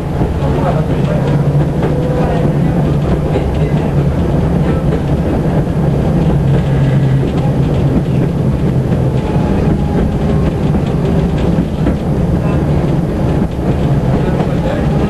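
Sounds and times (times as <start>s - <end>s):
tram hum: 0.0s - 15.0s
wheels rattling on rails: 0.0s - 15.0s.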